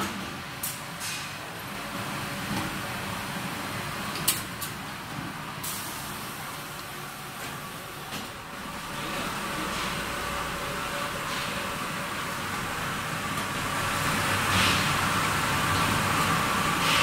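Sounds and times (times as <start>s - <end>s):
filling machine hum and hiss: 0.0s - 17.0s.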